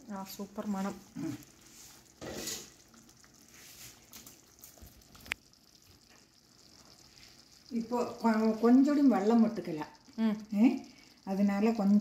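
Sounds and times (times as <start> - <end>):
faint sizzle: 0.0 - 12.0
gravy simmering in a pan: 0.0 - 12.0.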